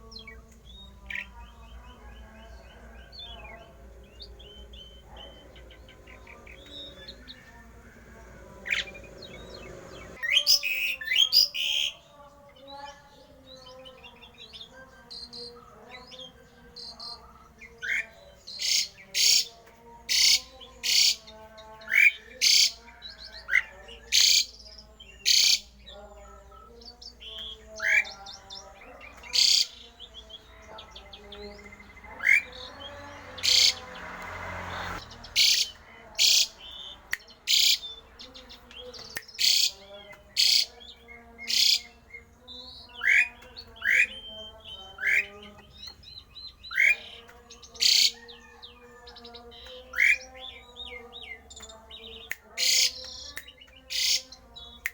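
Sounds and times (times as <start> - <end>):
starling singing: 0.0 - 54.9.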